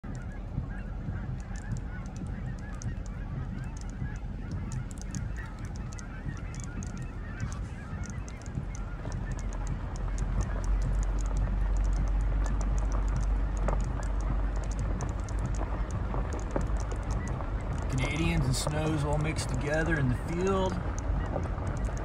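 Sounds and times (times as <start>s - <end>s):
geese honking: 0.0s - 22.0s
low rumble: 0.0s - 22.0s.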